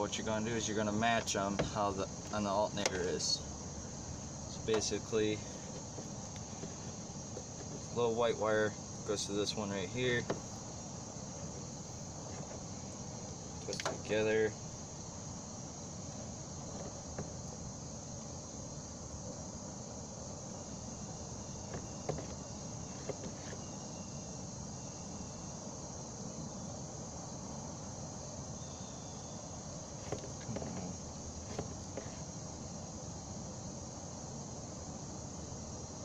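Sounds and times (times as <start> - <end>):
insects chirring: 0.0 - 36.0.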